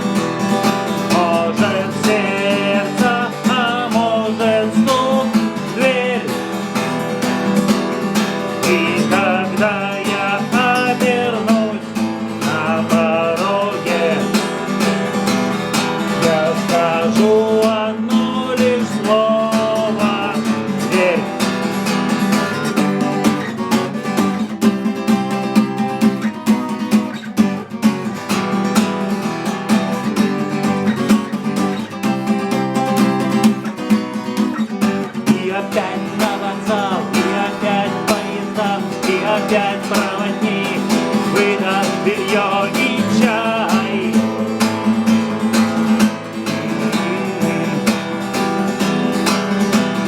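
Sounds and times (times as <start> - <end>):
guitar strumming: 0.0 - 50.0.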